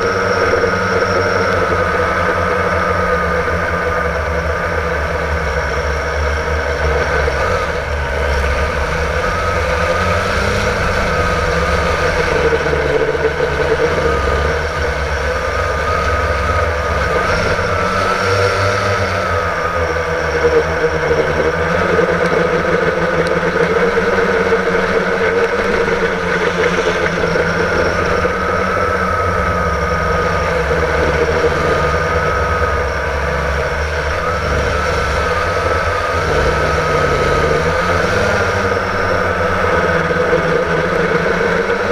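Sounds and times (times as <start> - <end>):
drone propellers whirring: 0.0 - 41.9.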